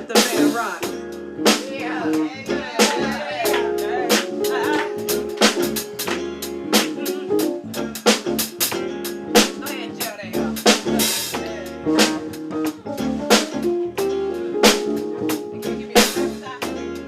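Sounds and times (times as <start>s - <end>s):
bass: 0.0s - 17.0s
drum kit beat: 0.0s - 17.0s
guitar chords: 0.0s - 17.0s.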